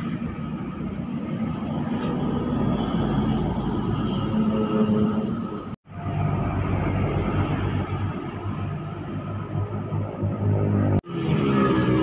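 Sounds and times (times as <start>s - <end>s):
diesel engines passing: 0.0s - 12.0s.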